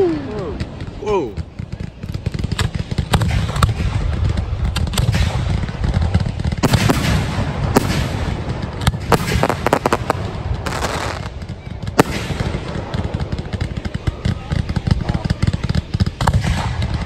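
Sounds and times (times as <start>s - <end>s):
fireworks crackle and hiss: 0.0s - 17.0s
sharp loud firework cracks: 0.0s - 17.0s.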